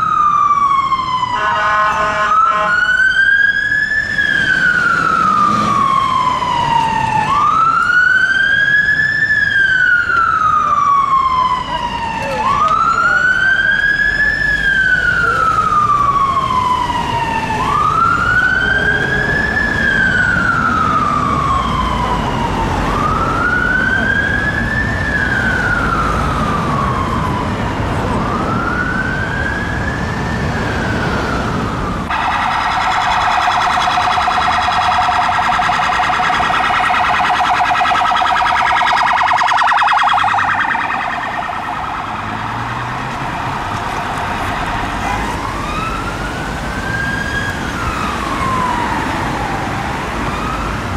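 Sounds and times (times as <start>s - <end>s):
fast wavering police siren: 0.0s - 50.9s
fire engine siren wailing: 0.0s - 50.9s
low traffic rumble: 0.0s - 50.9s.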